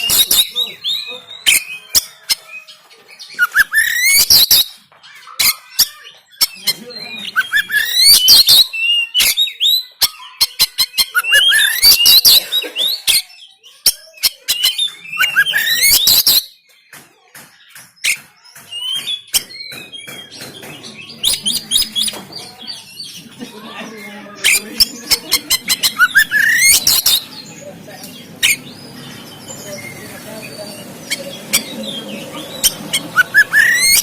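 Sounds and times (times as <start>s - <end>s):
bird whistled song: 0.0s - 4.8s, 5.4s - 16.6s, 18.0s - 22.2s, 24.4s - 27.6s, 28.4s - 34.0s.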